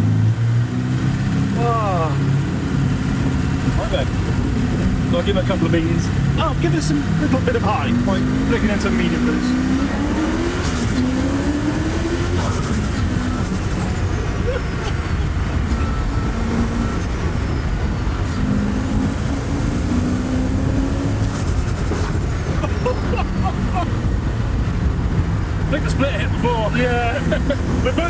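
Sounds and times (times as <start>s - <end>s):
engine accelerating hard: 0.0s - 28.0s.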